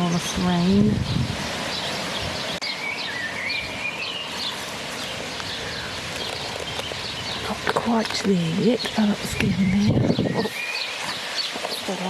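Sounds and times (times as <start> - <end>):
light rain hiss: 0.0 - 12.0
bird chirps: 1.0 - 12.0.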